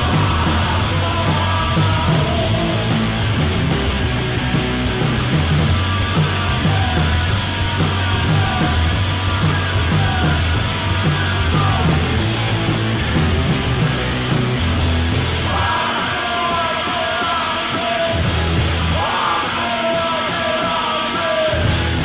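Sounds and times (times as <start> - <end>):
bass line: 0.0 - 19.2, 21.5 - 22.0
distorted guitars: 0.0 - 22.0
drums and cymbals: 0.0 - 22.0.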